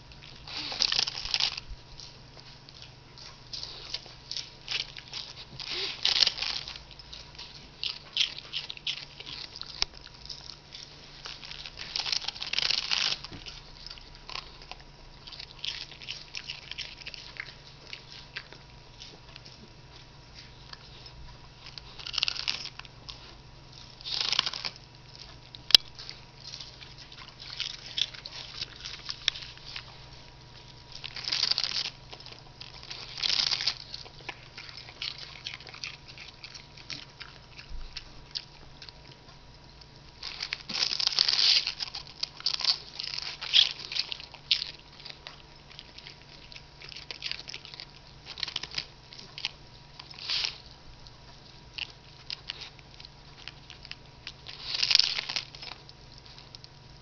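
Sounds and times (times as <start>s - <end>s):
dog crunching lettuce: 0.0s - 57.0s.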